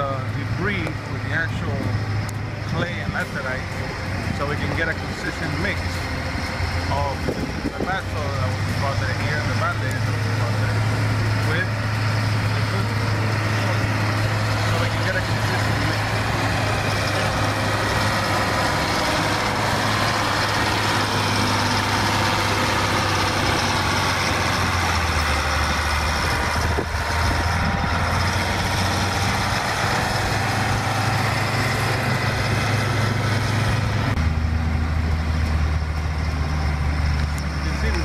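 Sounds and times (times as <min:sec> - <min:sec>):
diesel engine droning under load: 0:00.0 - 0:38.0.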